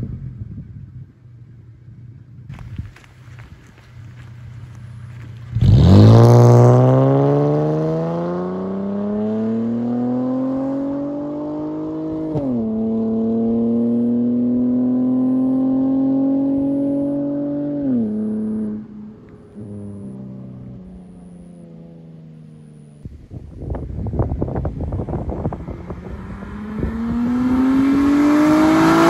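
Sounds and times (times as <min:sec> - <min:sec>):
car engine accelerating hard: 0:02.5 - 0:22.9, 0:24.6 - 0:29.0.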